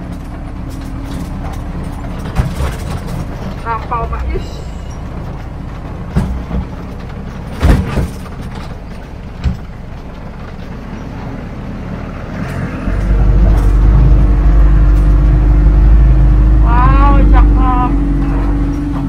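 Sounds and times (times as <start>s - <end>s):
diesel engine driving: 0.0s - 19.0s
road noise: 0.0s - 19.0s.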